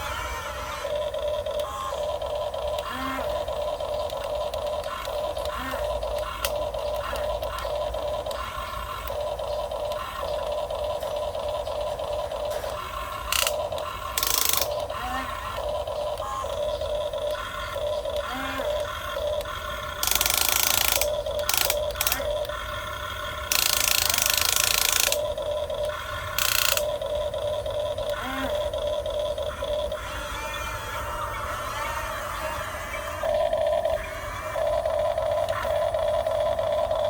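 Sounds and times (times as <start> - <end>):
electric motors whining: 0.0 - 37.0.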